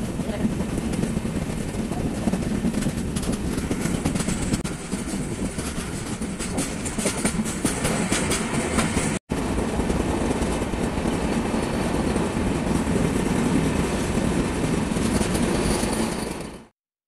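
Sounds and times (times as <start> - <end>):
train rushing through tunnel: 0.0 - 16.7.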